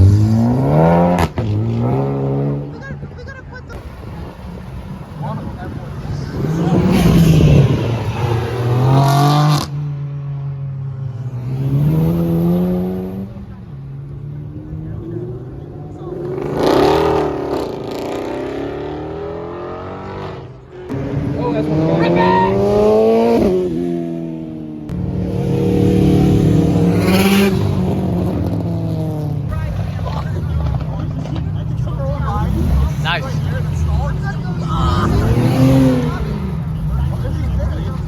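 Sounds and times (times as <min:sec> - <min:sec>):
car engine revving: 0:00.0 - 0:02.9, 0:03.8 - 0:38.0.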